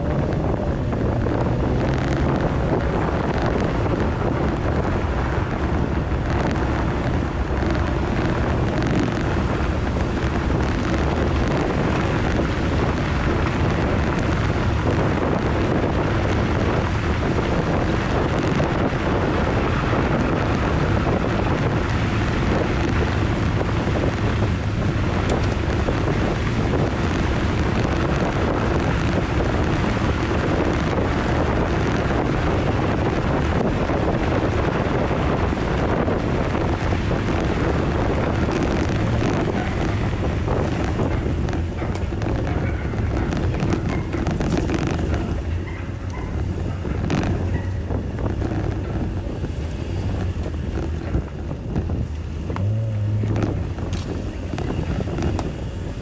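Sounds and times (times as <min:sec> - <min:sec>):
car engine running: 0:00.0 - 0:56.0
wind buffeting microphone: 0:00.0 - 0:56.0.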